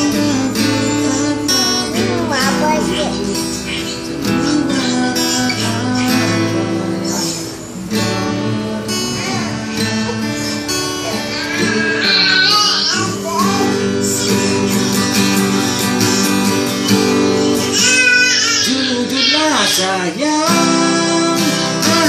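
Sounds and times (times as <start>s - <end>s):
acoustic guitar strummed: 0.0s - 22.0s.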